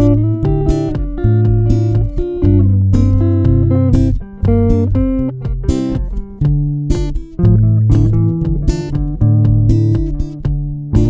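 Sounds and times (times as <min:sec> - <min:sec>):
deep sustained bass notes: 0:00.0 - 0:06.8, 0:07.4 - 0:11.0
electric guitar lead line: 0:00.0 - 0:11.0
guitar accompaniment: 0:00.0 - 0:11.0.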